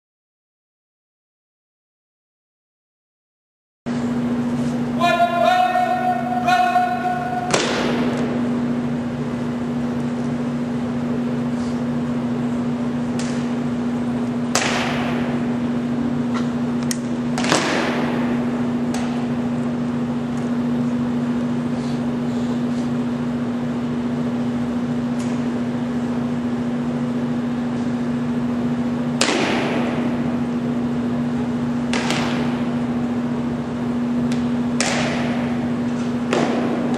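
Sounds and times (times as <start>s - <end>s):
steady low hum: 3.9s - 36.9s.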